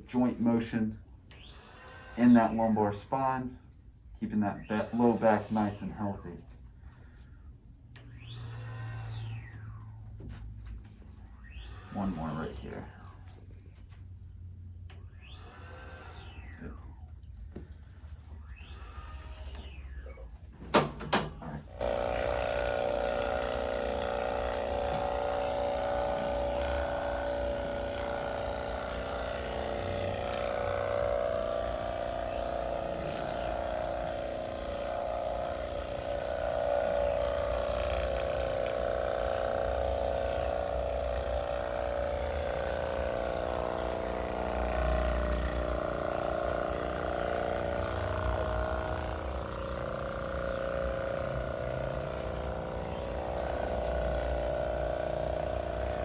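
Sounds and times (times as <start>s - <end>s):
small electric motor running: 1.3s - 3.4s, 4.5s - 20.5s, 21.4s - 56.0s.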